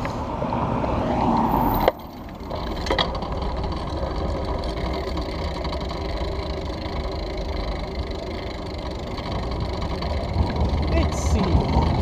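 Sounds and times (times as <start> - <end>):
bicycle rolling over bricks: 1.3 - 12.0.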